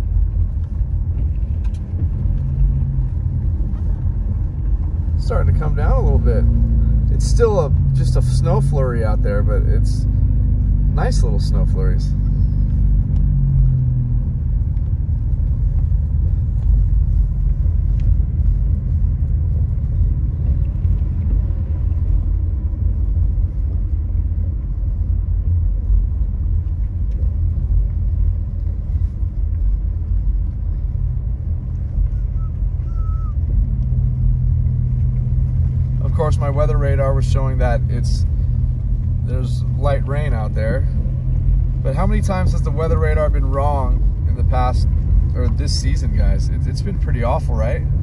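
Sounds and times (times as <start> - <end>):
car road and engine rumble: 0.0 - 48.0
low engine hum: 0.0 - 48.0.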